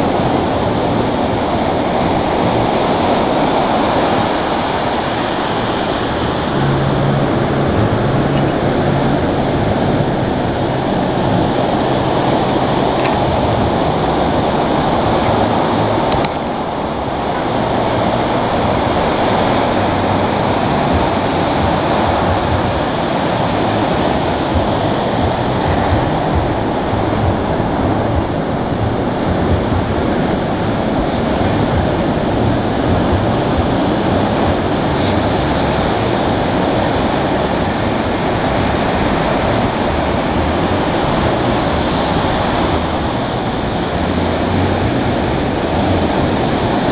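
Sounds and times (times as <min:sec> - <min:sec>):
waves breaking on sand: 0:00.0 - 0:46.9.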